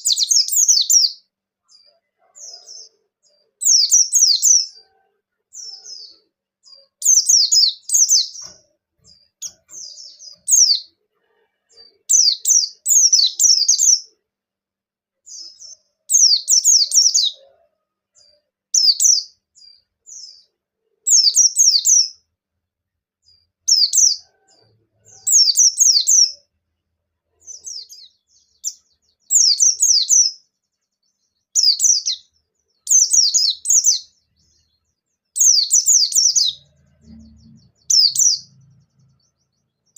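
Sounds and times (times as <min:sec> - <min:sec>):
bird twittering song: 0:00.0 - 0:11.1, 0:11.7 - 0:14.2, 0:15.2 - 0:22.3, 0:23.2 - 0:26.6, 0:27.4 - 0:39.9.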